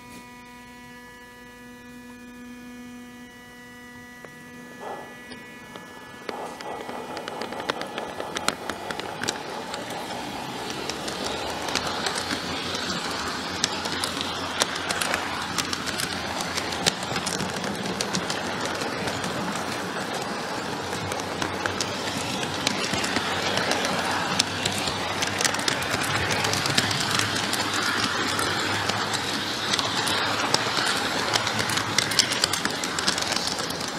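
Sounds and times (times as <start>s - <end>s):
model train humming: 0.0s - 33.9s
train wheels clicking on rails: 4.8s - 33.9s.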